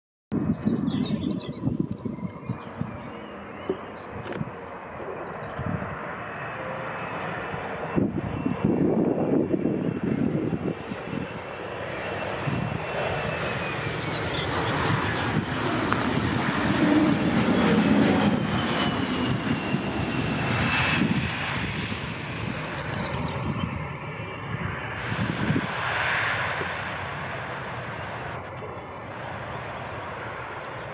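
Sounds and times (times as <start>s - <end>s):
jet engine rush and whine: 0.3s - 30.9s.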